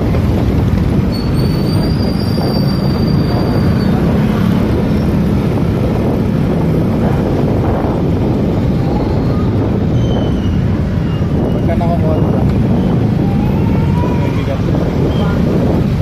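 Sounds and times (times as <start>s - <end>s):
motorcycle engine rumble: 0.0s - 16.0s
wind noise: 0.0s - 16.0s.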